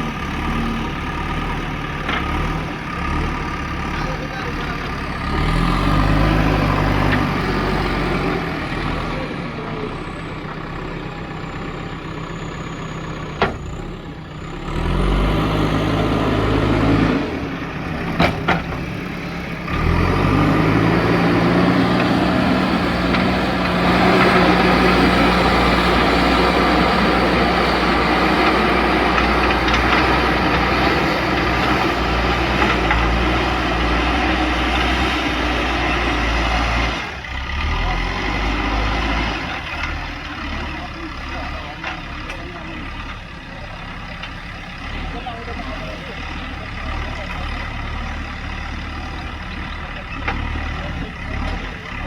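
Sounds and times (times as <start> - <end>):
diesel engine revving: 0.0 - 52.0.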